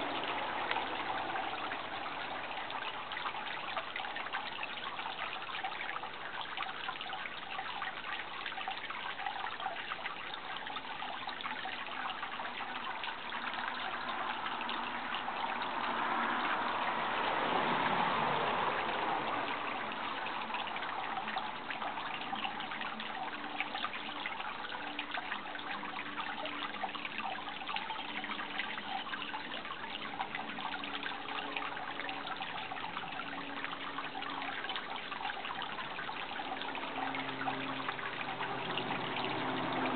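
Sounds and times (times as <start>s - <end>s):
flowing trickling water: 0.0s - 39.9s.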